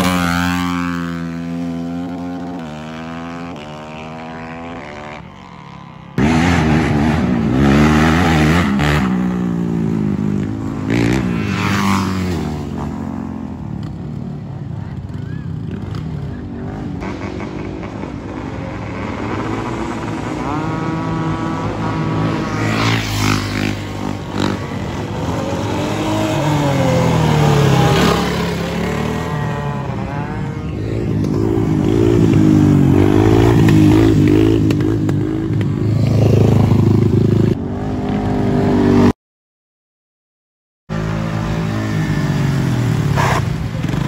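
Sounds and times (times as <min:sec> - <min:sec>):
dirt bike engines revving: 0:00.0 - 0:39.1, 0:40.9 - 0:44.0.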